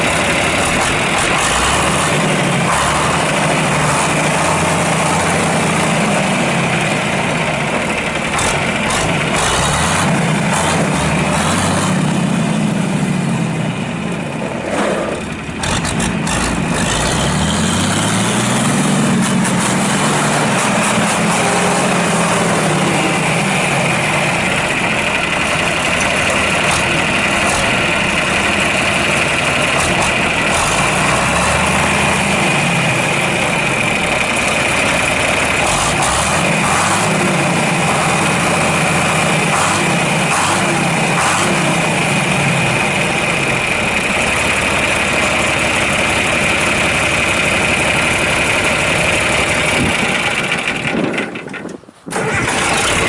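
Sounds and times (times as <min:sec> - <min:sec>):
diesel engine revving: 0:00.0 - 0:53.0.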